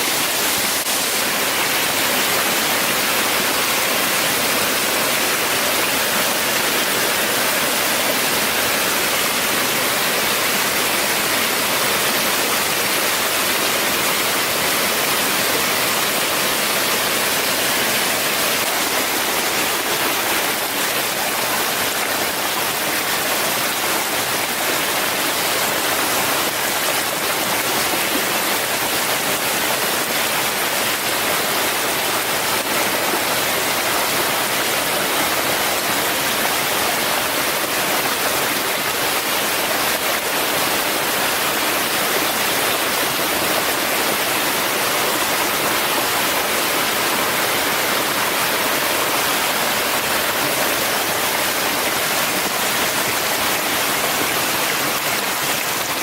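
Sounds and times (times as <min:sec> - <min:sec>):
hiss of running water: 0:00.0 - 0:56.0.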